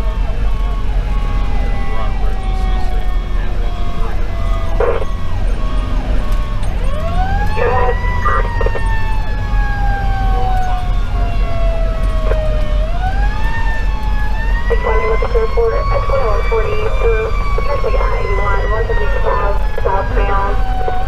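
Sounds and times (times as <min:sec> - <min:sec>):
diesel engine rumble: 0:00.0 - 0:21.0
road noise: 0:00.0 - 0:21.0.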